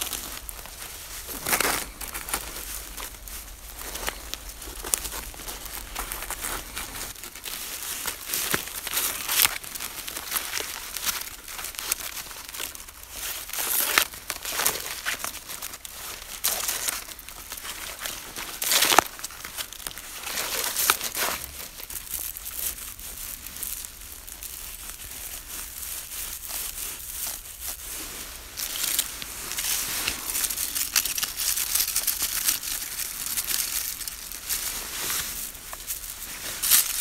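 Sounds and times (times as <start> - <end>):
dry leaves and twigs rustling: 0.0 - 37.0.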